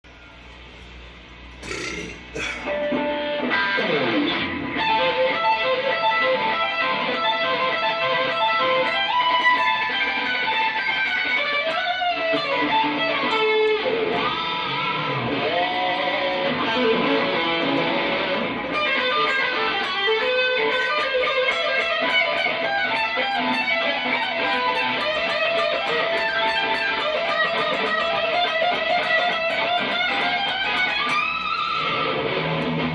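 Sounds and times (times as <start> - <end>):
electric guitar music: 0.1 - 32.9.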